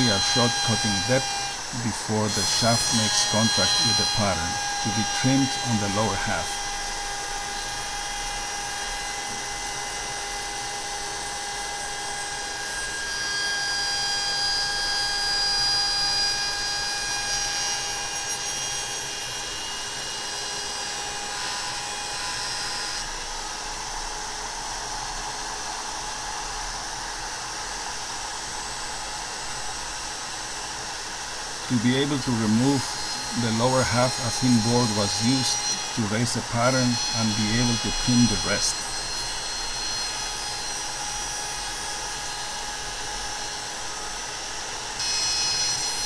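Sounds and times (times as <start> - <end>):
router cutting wood: 0.0 - 46.0.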